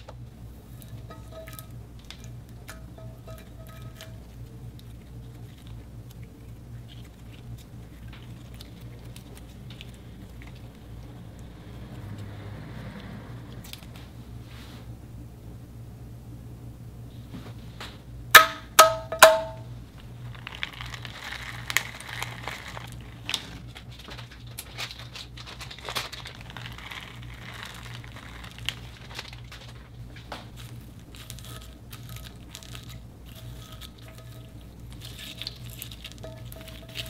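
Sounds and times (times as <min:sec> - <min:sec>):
foam beads pattering: 0:00.6 - 0:12.2, 0:18.8 - 0:37.0.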